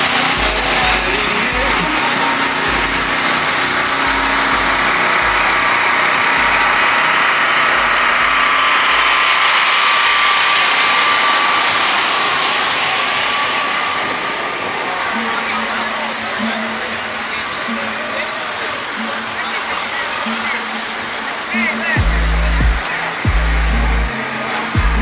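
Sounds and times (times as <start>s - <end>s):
loud rushing noise: 0.0s - 25.0s
vehicle engine running: 0.0s - 25.0s.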